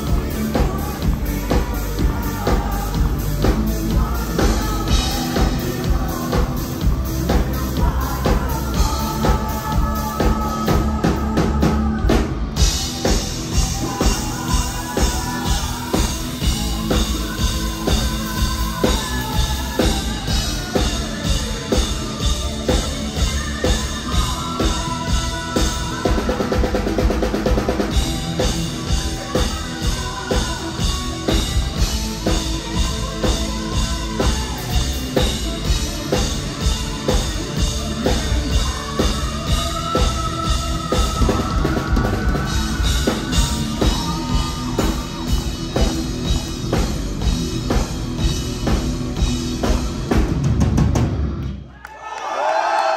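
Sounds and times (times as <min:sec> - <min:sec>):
heavy metal band playing: 0:00.0 - 0:51.6.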